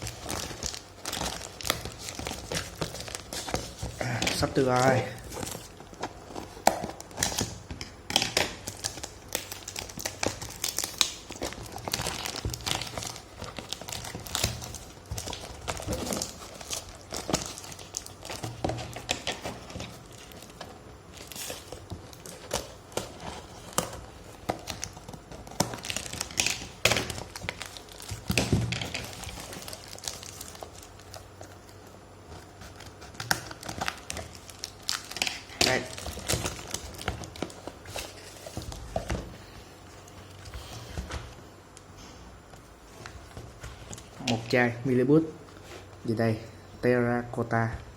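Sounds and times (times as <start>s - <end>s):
packaging crinkling and tearing: 0.0s - 41.0s.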